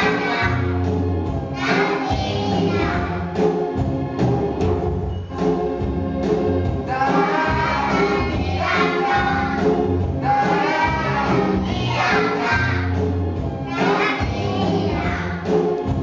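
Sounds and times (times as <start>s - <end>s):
children singing along: 0.0s - 3.8s, 6.8s - 16.0s.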